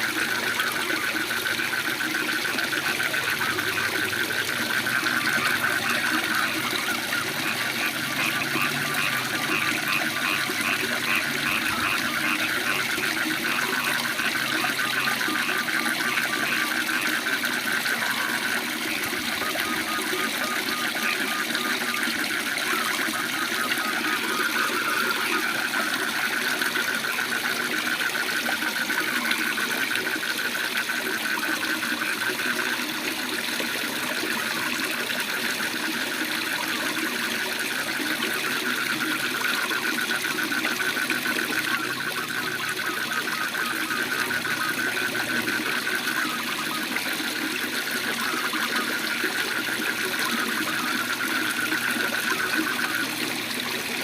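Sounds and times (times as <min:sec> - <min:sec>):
frogs trilling: 0:00.0 - 0:54.0.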